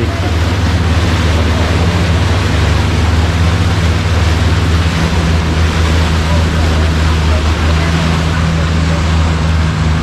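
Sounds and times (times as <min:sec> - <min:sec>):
boat engine droning: 0:00.0 - 0:10.0
wind and water rushing: 0:00.0 - 0:10.0.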